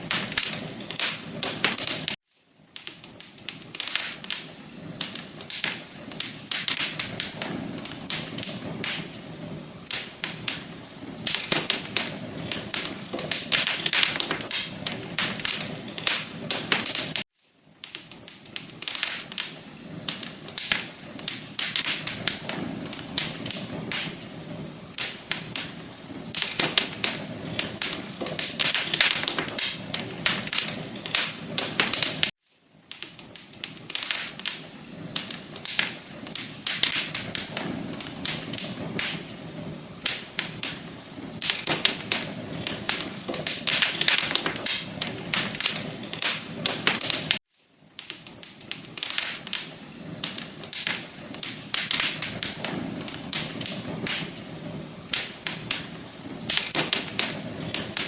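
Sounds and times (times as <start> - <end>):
low rush of flame: 0.0 - 58.0
wood fire popping and snapping: 0.0 - 58.0.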